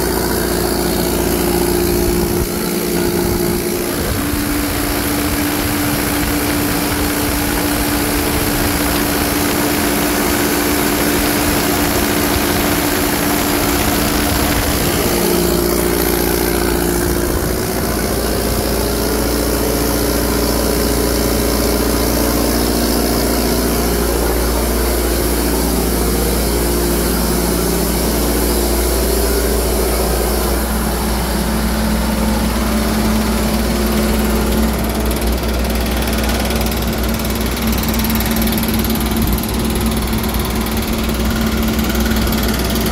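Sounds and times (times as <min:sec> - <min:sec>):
deep hum: 0:00.0 - 0:42.9
diesel generator running: 0:00.0 - 0:42.9.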